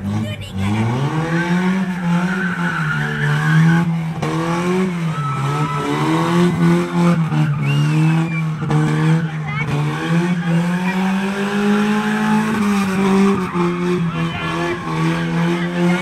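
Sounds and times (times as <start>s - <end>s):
car engine at high revs: 0.0s - 16.0s
tyres squealing: 0.6s - 16.0s.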